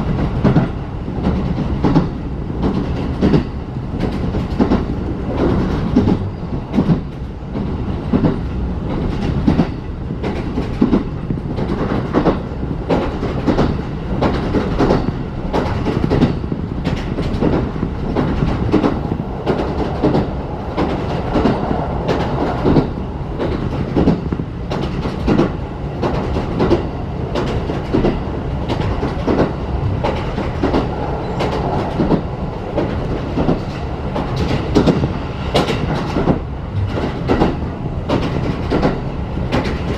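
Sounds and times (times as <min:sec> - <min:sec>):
train wheels rumbling on rail: 0:00.0 - 0:39.9
wheels clacking over rail joints: 0:00.0 - 0:39.9.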